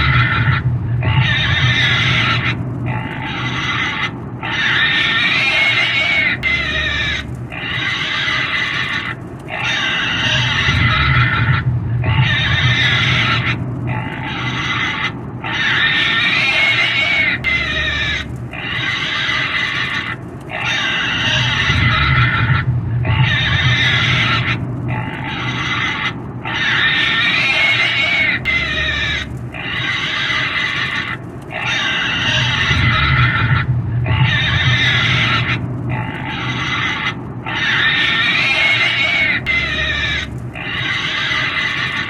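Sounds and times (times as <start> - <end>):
pig squealing: 0.0 - 42.0.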